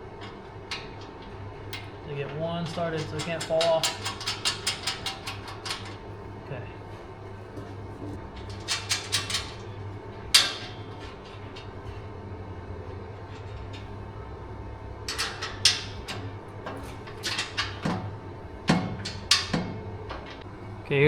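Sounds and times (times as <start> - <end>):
metal clinks and knocks: 0.0 - 20.8
steady low hum: 0.0 - 21.0.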